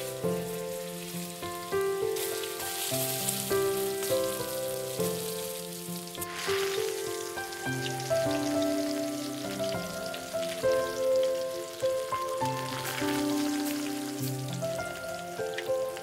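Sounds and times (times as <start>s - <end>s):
background music with sustained notes: 0.0s - 16.0s
onion and garlic sizzling in pan: 0.0s - 16.0s
puree poured into hot fat hissing: 0.0s - 16.0s.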